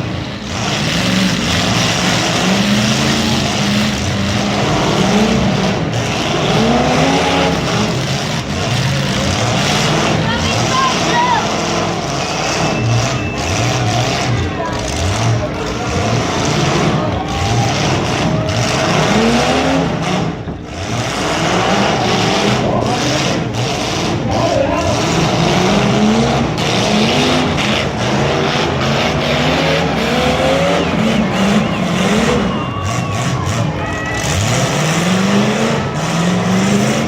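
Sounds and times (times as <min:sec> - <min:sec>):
car engines revving hard: 0:00.0 - 0:37.0
constant dense roar: 0:00.0 - 0:37.0.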